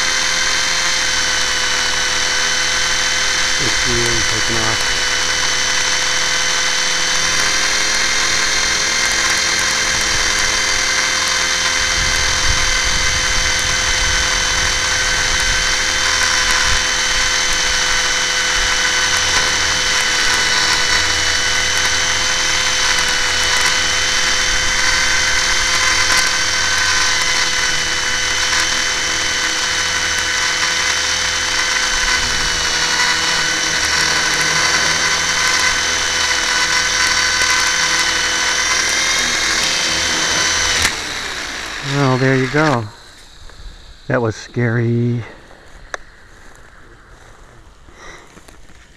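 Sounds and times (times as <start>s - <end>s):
rotor wash and wind rumble: 0.0s - 44.1s
helicopter motor whine: 0.0s - 48.9s.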